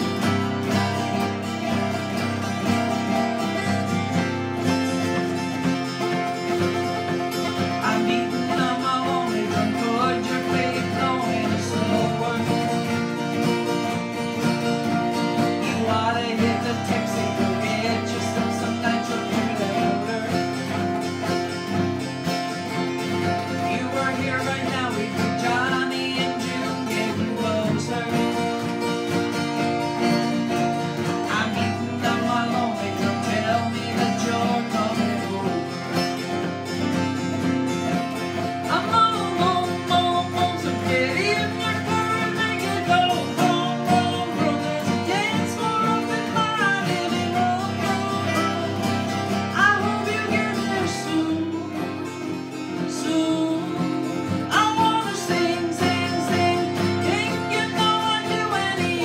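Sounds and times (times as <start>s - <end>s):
acoustic guitars strumming: 0.0s - 59.0s
woman singing: 0.0s - 59.0s.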